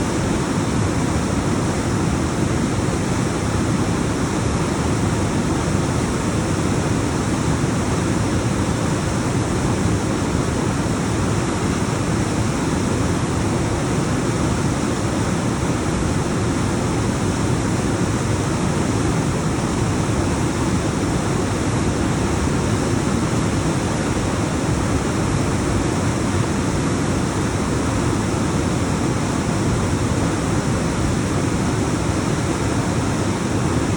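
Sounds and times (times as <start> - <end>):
waterfall rushing over rocks: 0.0 - 33.9.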